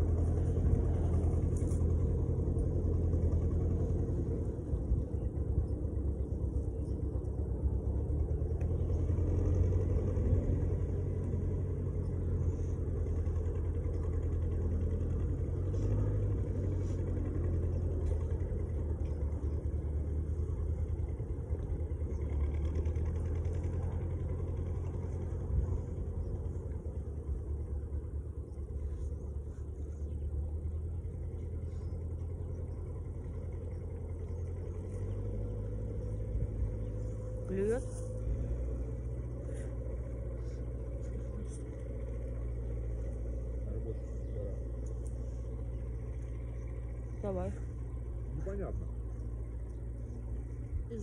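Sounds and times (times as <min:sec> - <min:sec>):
tractor engine humming: 0:00.0 - 0:51.0.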